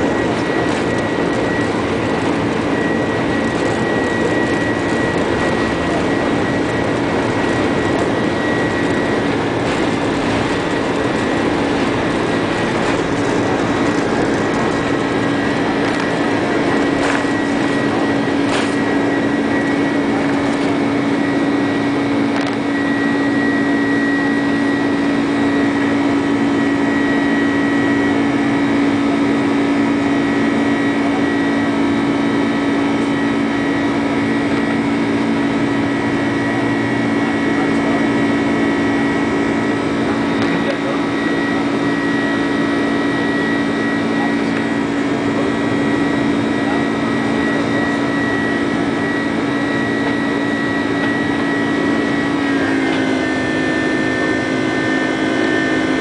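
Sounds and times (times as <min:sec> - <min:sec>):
jet engines drone: 0:00.0 - 0:56.0.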